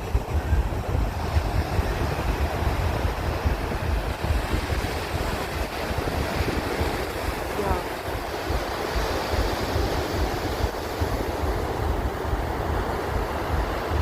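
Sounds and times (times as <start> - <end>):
sea waves washing: 0.0 - 14.0
wind buffeting microphone: 0.0 - 14.0.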